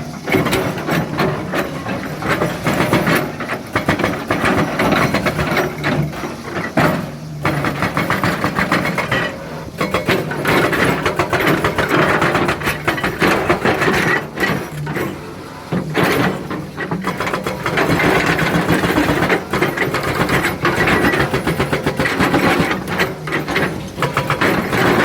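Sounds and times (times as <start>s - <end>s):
excavator diesel engine clattering: 0.0s - 25.0s.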